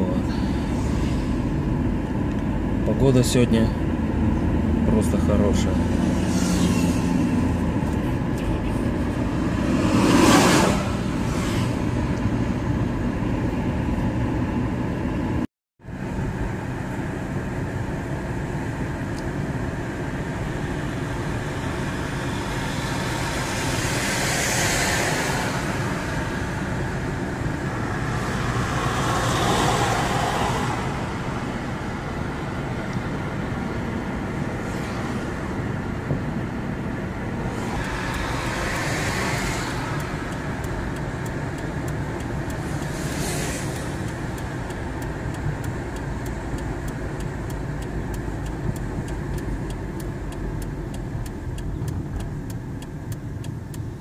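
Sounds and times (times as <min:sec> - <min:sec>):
engine and tyre rumble in car: 0:00.0 - 0:54.0
passing traffic: 0:00.0 - 0:54.0.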